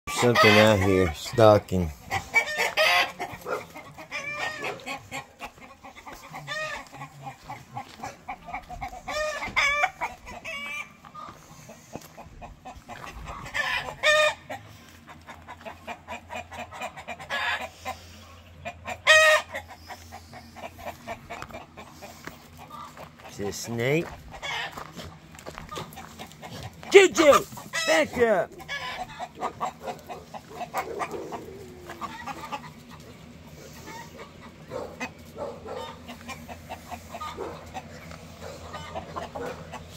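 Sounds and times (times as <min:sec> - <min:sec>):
chickens clucking and cackling: 0:00.1 - 0:39.9.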